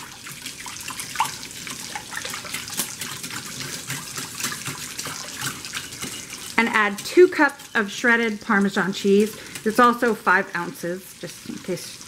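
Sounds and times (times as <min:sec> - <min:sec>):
whisk sloshing cream: 0:00.0 - 0:12.0
whisk ticking against bowl: 0:00.3 - 0:10.4.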